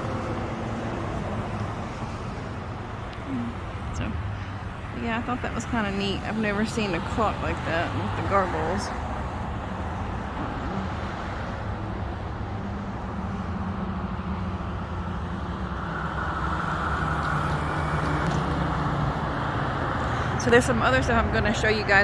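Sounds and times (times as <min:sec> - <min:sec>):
road noise: 0:00.0 - 0:22.0
traffic engine hum: 0:00.0 - 0:22.0.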